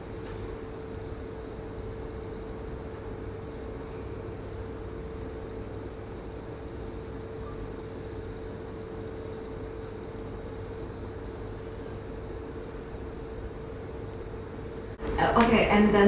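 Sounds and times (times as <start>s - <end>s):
machine electrical hum with steady tone: 0.0s - 16.0s.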